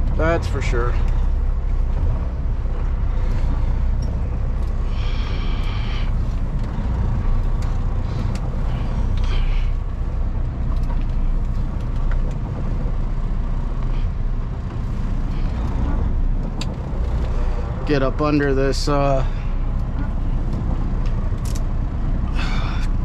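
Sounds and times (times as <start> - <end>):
diesel truck engine rumble: 0.0 - 23.0.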